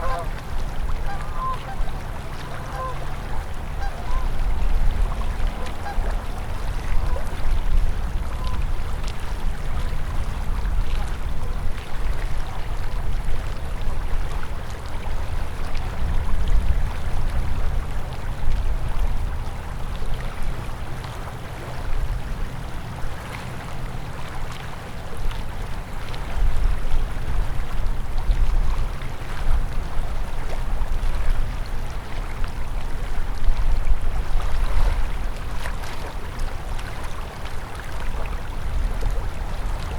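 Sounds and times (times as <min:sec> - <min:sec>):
low rumble of water: 0:00.0 - 0:39.9
river water rushing: 0:00.0 - 0:39.9.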